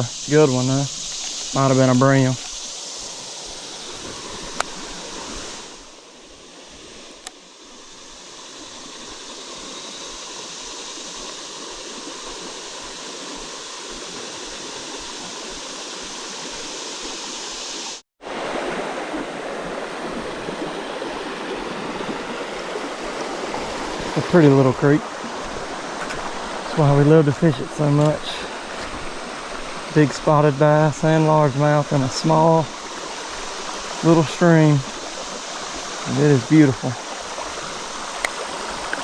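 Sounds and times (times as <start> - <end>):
creek water running: 0.0 - 39.0.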